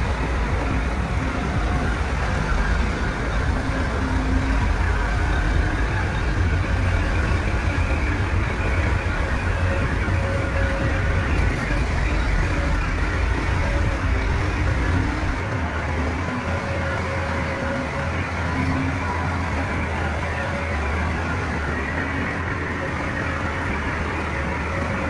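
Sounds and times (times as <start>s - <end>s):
diesel earthmoving machinery drone: 0.0s - 25.0s.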